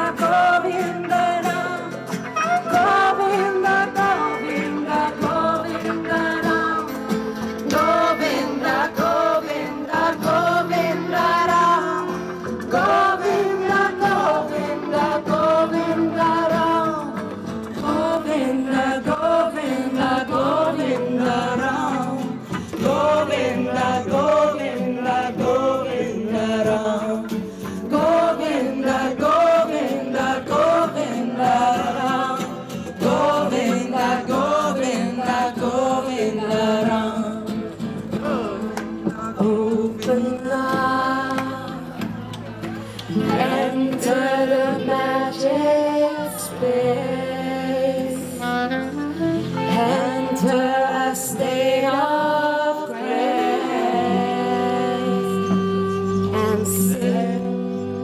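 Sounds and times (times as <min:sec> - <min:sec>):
strummed acoustic guitars: 0:00.0 - 0:58.0
voices singing together: 0:00.0 - 0:58.0.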